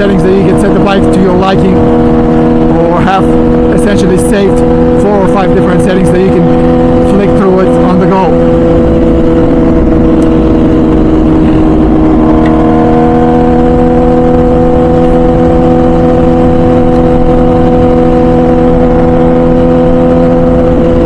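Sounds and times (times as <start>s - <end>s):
motorcycle engine cruising: 0.0s - 21.0s
wind rush: 0.0s - 21.0s.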